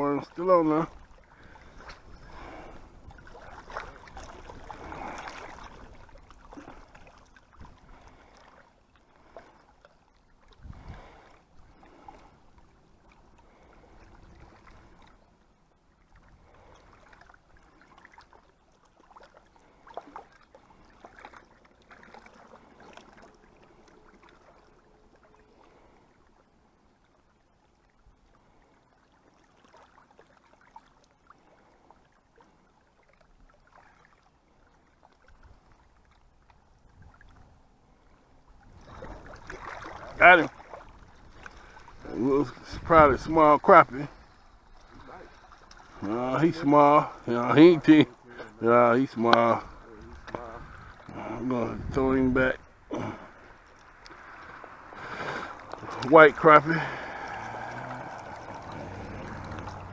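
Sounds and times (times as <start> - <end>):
light wind: 0.0 - 59.9
water lapping: 0.0 - 59.9.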